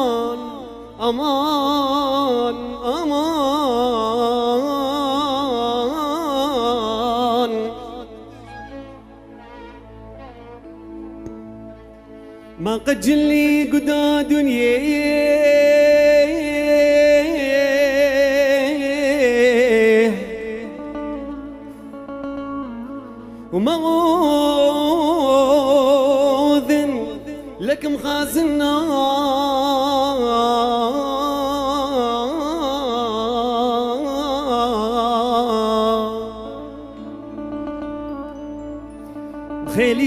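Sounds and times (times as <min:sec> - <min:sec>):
man singing into microphone: 0:00.0 - 0:10.6, 0:12.5 - 0:38.4, 0:39.4 - 0:40.0.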